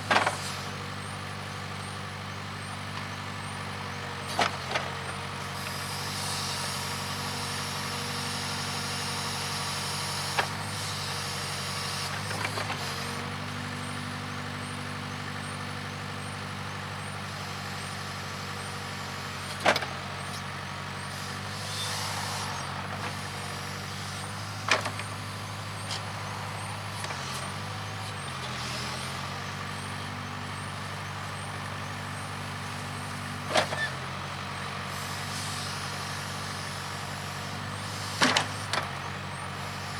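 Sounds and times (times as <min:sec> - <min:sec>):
backhoe diesel engine: 0:00.0 - 0:39.9.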